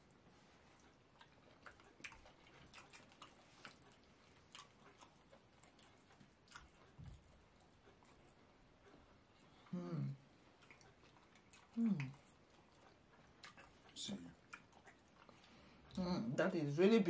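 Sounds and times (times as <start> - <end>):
wet chewing noises: 0.0 - 16.0.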